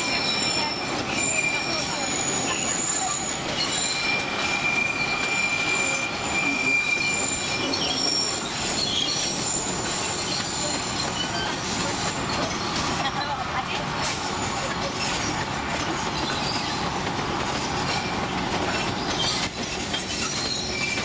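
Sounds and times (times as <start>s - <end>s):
train rumbling: 0.0s - 21.0s
wheels squealing on rails: 0.0s - 21.0s.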